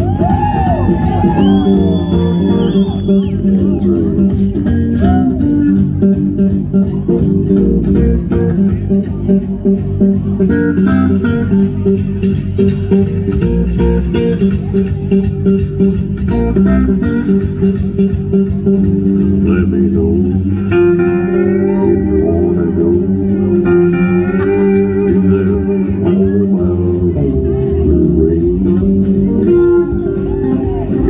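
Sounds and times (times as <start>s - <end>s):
drums: 0.0s - 31.0s
electric guitar: 0.0s - 31.0s
upright bass: 0.0s - 31.0s.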